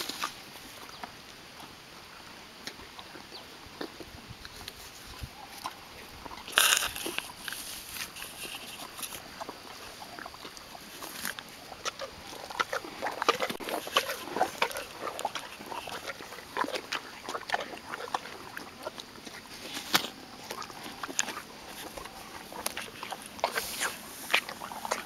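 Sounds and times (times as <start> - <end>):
donkey chewing and slurping: 0.0 - 25.0.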